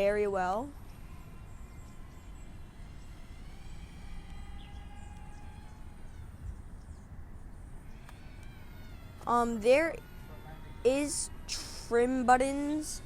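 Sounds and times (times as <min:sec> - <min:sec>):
faint thin whining tones: 0:00.0 - 0:13.0
wind buffeting microphone: 0:00.0 - 0:13.0.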